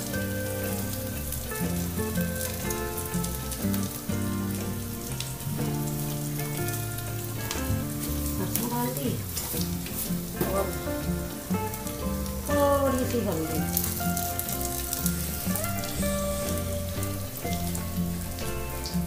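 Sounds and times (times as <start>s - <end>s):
low held notes: 0.0s - 19.0s
onions sizzling in hot oil: 0.0s - 19.0s.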